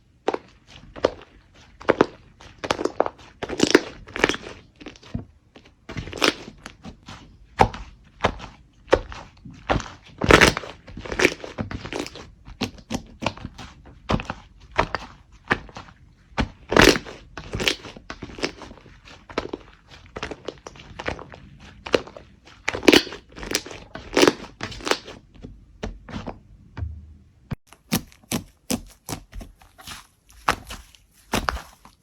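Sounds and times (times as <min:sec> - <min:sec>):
slime popping and crackling: 0:00.2 - 0:26.3, 0:27.7 - 0:32.0.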